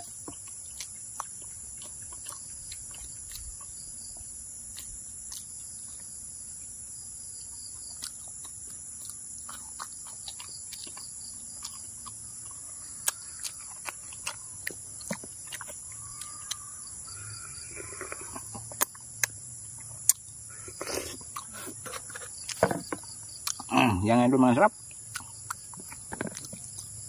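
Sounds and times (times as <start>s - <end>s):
wet lip-smacking and chewing: 0.0s - 6.1s, 7.8s - 16.7s, 17.9s - 23.7s, 24.9s - 27.0s
crickets droning: 0.0s - 27.0s.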